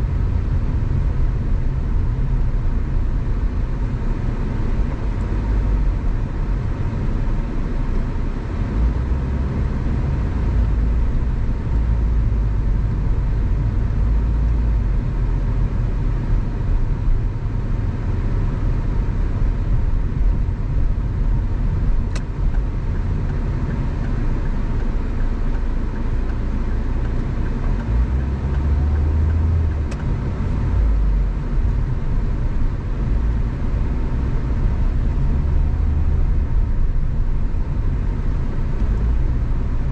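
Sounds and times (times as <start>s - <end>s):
car driving road noise: 0.0s - 39.9s.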